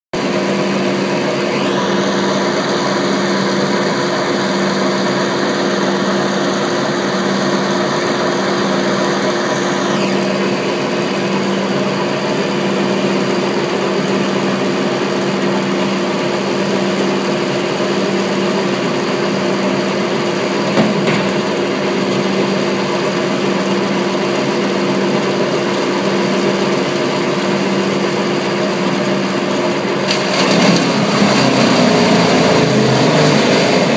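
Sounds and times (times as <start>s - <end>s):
wood chipper running: 0.2s - 33.9s.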